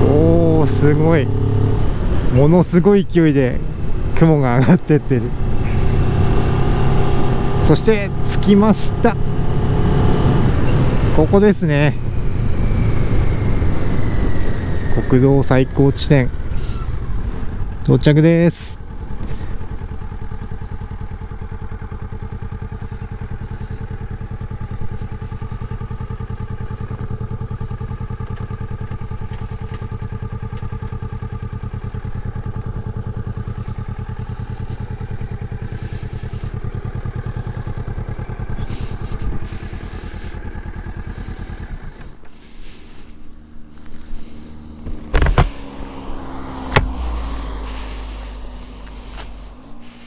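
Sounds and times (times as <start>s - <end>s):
motorcycle engine idling: 0.0s - 15.0s, 15.6s - 50.0s.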